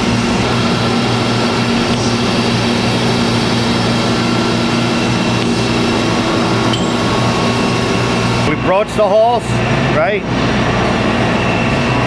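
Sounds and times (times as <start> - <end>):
machine-shop machinery din: 0.0 - 12.0.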